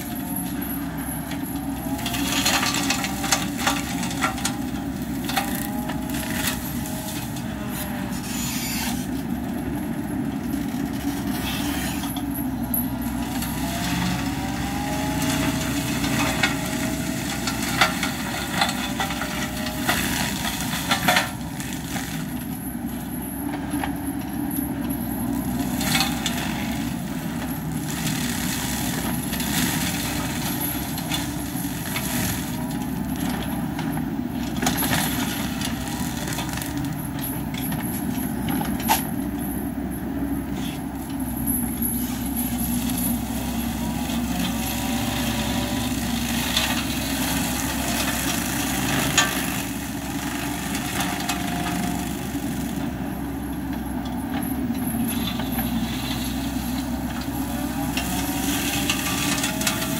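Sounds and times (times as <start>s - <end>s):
diesel engine running under load: 0.0s - 59.9s
mulcher shredding brush: 0.0s - 59.9s.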